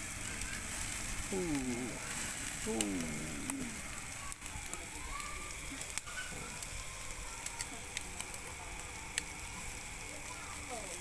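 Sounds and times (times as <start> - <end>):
charcoal crackling pops: 0.0 - 11.0
food sizzling on a grill: 0.0 - 11.0.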